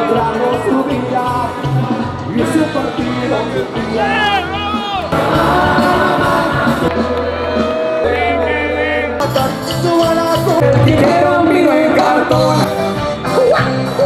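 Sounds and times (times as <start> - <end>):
person singing: 0.0 - 14.0
sustained bass line: 0.0 - 14.0.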